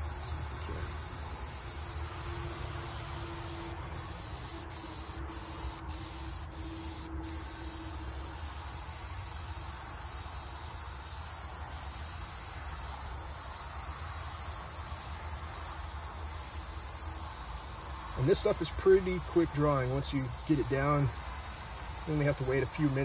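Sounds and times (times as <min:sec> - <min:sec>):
airbrush spraying hiss: 0:00.0 - 0:23.0.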